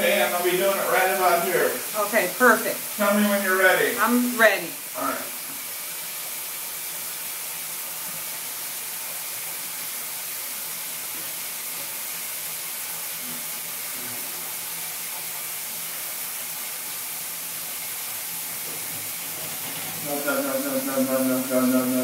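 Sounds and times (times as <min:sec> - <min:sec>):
shower spray hissing: 0:00.0 - 0:22.0.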